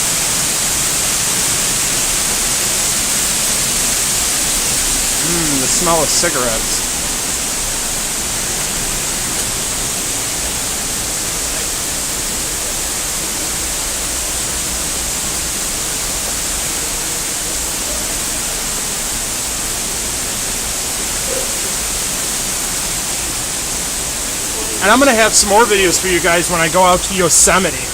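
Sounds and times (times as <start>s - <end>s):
waterfalls rushing: 0.0s - 27.9s.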